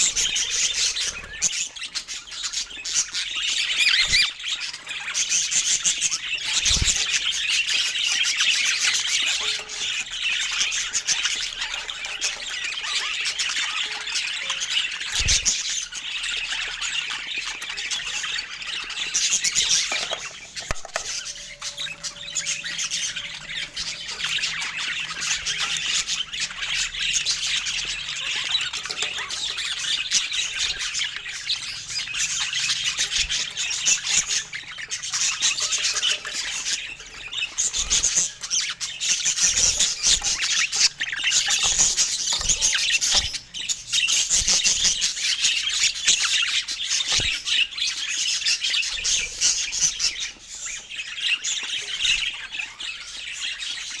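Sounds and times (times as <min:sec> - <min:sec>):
parakeets chattering and squawking: 0:00.0 - 0:54.0.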